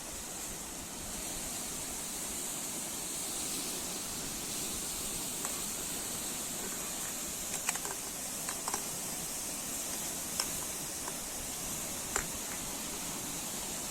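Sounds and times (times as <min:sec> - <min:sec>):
sea surf hissing: 0:00.0 - 0:13.9.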